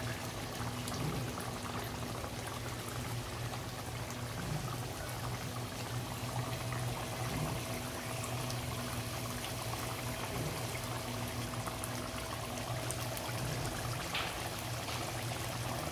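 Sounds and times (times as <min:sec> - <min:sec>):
curry bubbling in a metal pot: 0:00.0 - 0:15.9
steady low hum: 0:00.0 - 0:15.9.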